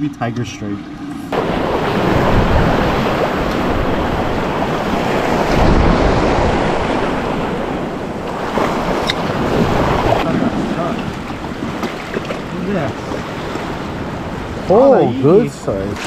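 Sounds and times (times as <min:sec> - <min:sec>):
ocean surf on rocks: 0:01.3 - 0:16.0.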